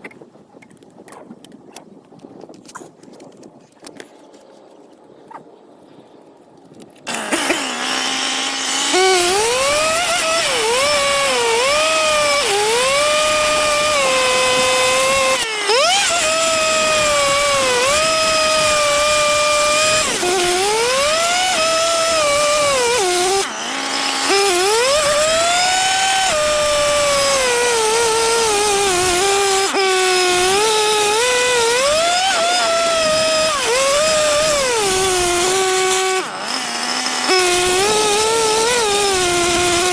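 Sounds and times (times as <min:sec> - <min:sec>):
small engine power equipment: 0:07.0 - 0:39.9.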